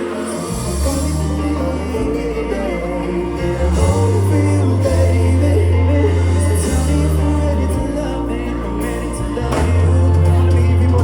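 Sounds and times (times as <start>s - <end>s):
heavy bass line: 0.0s - 11.0s
live band playing reggae-pop: 0.0s - 11.0s
person singing: 0.0s - 11.0s.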